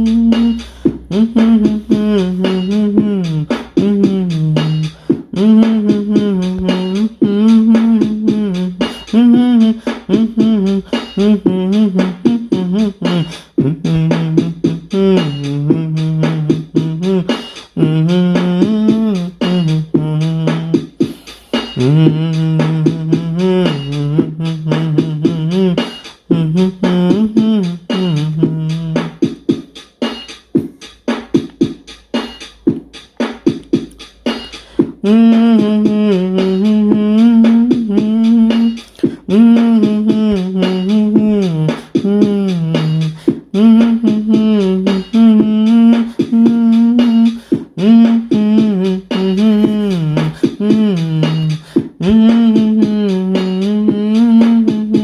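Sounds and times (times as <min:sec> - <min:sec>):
melody over fast beat: 0:00.0 - 0:55.0.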